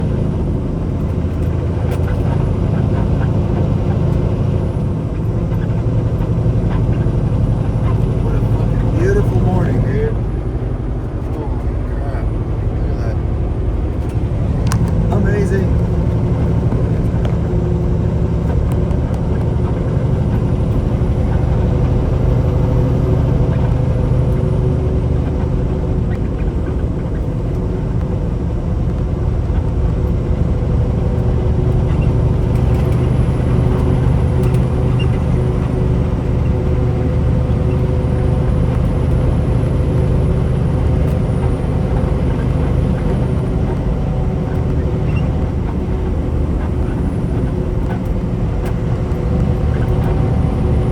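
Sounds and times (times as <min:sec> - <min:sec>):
road noise: 0:00.0 - 0:50.9
truck engine hum: 0:00.0 - 0:50.9.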